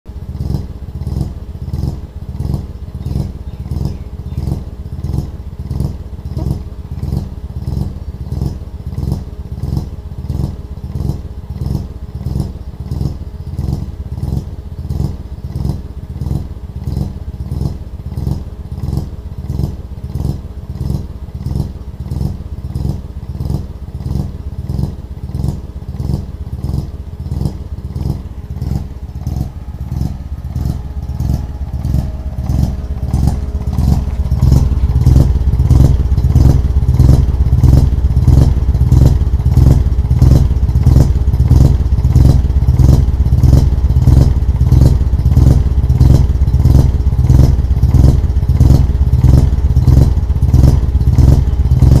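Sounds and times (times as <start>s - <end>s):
rotary engine exhaust pulsing: 0.0s - 52.0s.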